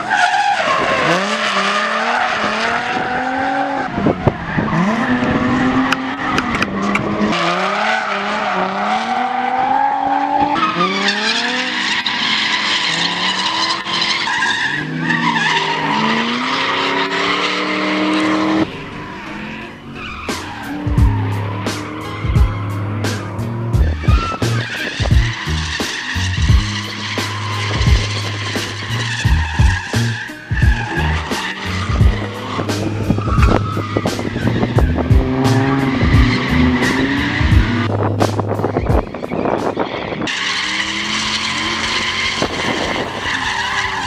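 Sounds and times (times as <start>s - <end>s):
car engines revving: 0.0s - 44.0s
tyres screeching: 0.0s - 44.0s.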